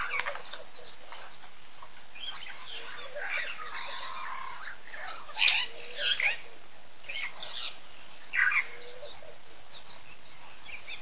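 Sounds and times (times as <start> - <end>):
bird calls and chirps: 0.0 - 11.0
steady background hiss: 0.0 - 11.0.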